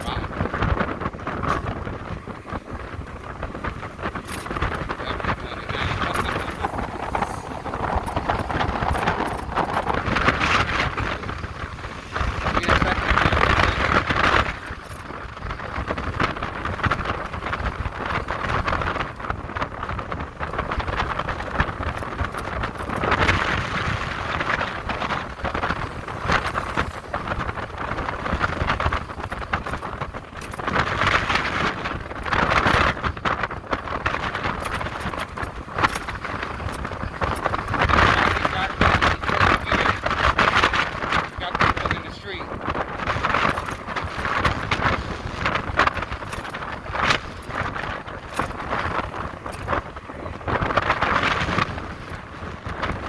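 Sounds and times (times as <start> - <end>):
road and tyre noise: 0.0 - 53.0
wind buffeting microphone: 0.0 - 53.0.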